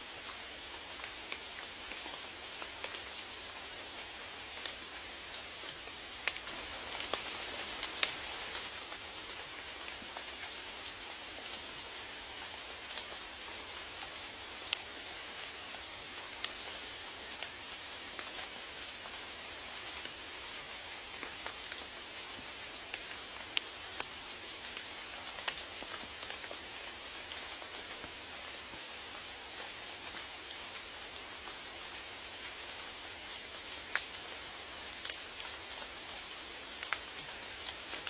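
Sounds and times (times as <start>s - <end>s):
raindrops ticking nearby: 0.0s - 38.0s
steady rain hiss: 0.0s - 38.0s.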